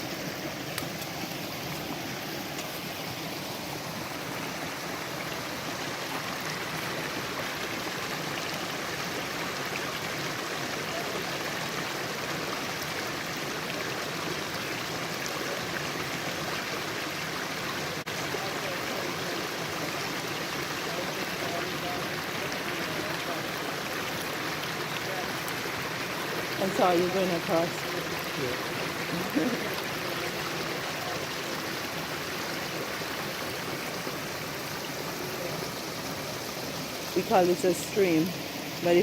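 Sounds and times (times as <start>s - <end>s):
forest stream flowing: 0.0s - 39.0s.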